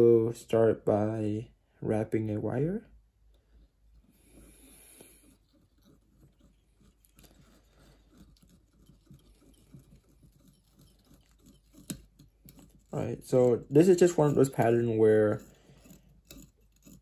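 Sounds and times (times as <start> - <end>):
soft ticks and rustling of wire: 3.2 - 17.0.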